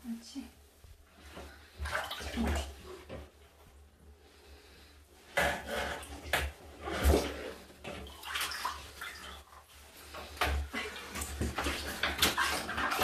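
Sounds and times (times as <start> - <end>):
water splashing in bathtub: 0.9 - 4.4, 5.2 - 13.0.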